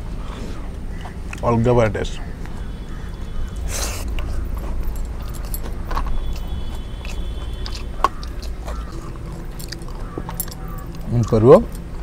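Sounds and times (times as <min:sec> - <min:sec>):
people chewing and biting: 0:00.0 - 0:01.5, 0:02.2 - 0:12.0
steady low hum: 0:00.0 - 0:12.0.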